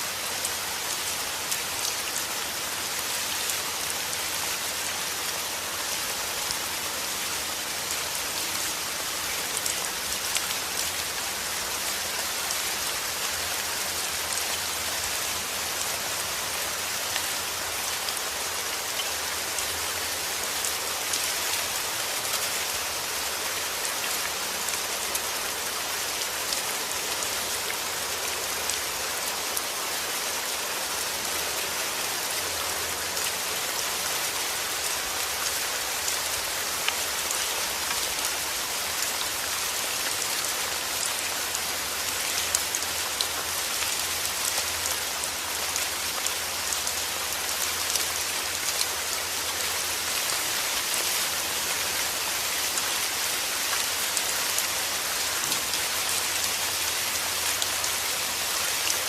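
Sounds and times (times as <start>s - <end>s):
heavy rain falling: 0.0s - 59.0s
rain patters on hard surface: 0.0s - 59.0s.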